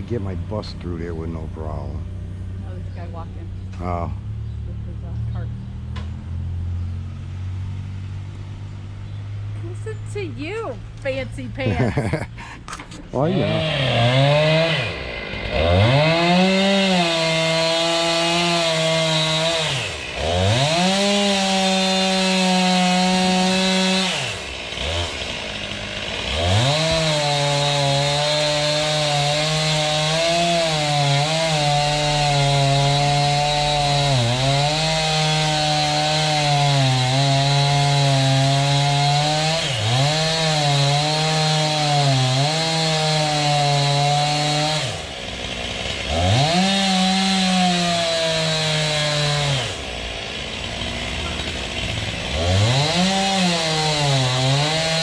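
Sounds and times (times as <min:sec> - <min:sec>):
chainsaw engine revving: 0:00.0 - 0:06.3, 0:09.4 - 0:55.0.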